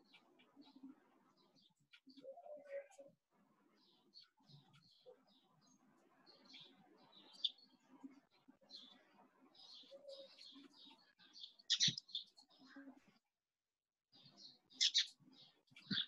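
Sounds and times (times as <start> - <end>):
small birds chirping faintly: 0.0 - 13.4, 14.1 - 16.0.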